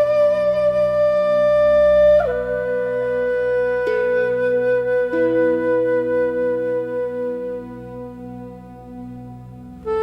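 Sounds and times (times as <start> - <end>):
flute note: 0.0 - 10.0.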